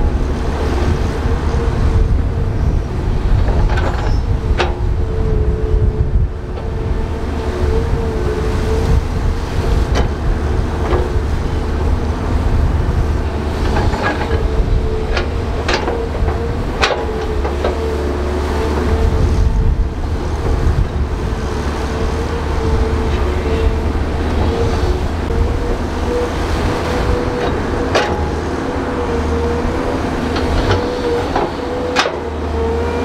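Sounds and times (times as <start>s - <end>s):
bulldozer diesel rumble: 0.0s - 33.0s.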